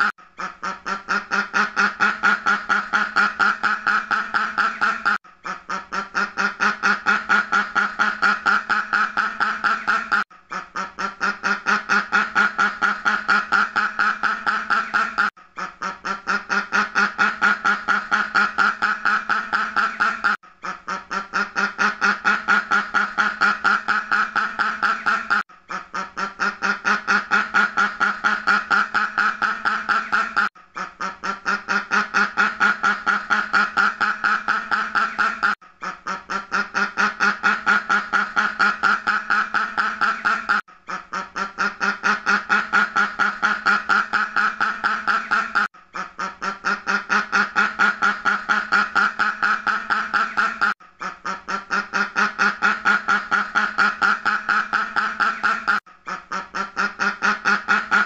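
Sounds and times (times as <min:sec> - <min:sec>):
duck quacking: 0:00.0 - 0:58.0.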